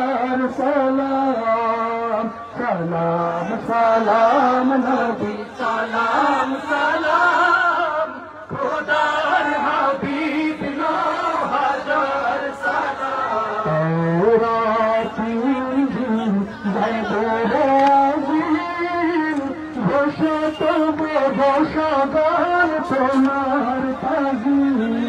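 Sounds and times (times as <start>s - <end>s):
devotional chanting: 0.0s - 25.0s.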